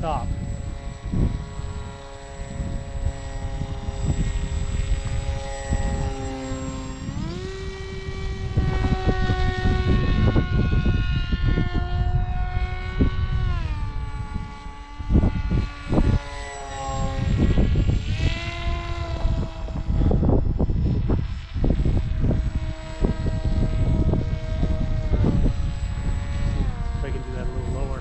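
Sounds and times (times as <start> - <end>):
electric motor propeller whine: 0.0 - 28.0
wind buffeting microphone: 0.0 - 28.0.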